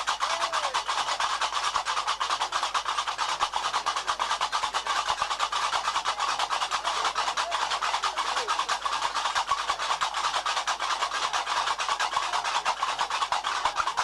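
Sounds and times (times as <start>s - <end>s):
fast percussion music: 0.0s - 14.0s.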